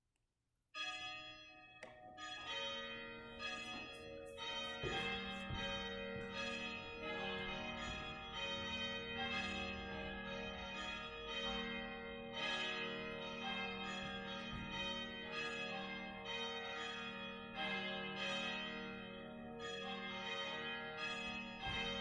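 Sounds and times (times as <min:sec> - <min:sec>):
church bells ringing: 0:00.8 - 0:22.0.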